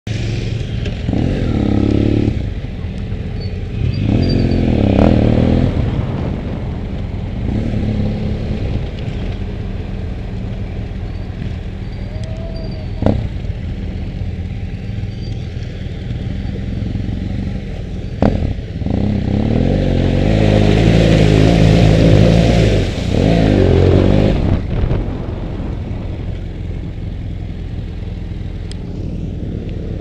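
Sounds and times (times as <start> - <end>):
motorcycle engine revving: 0.1 - 30.0.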